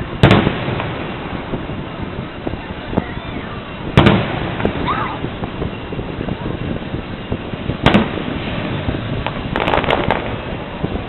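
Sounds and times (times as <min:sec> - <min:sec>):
distant crowd: 0:00.0 - 0:11.0
firework pops: 0:00.0 - 0:11.0
wind: 0:00.0 - 0:11.0.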